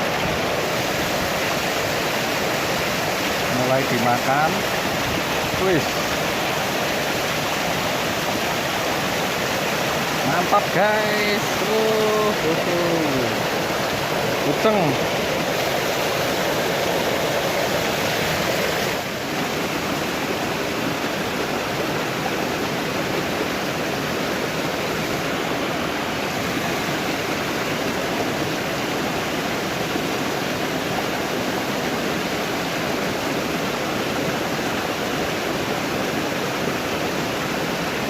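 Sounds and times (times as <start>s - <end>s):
river water rushing: 0.0s - 38.0s.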